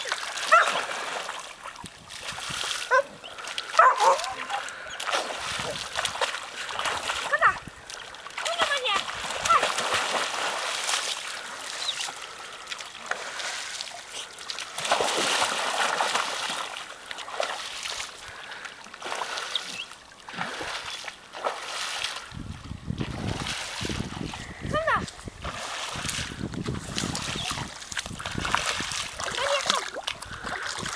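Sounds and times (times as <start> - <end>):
dog splashing through water: 0.0 - 22.3, 23.0 - 30.9.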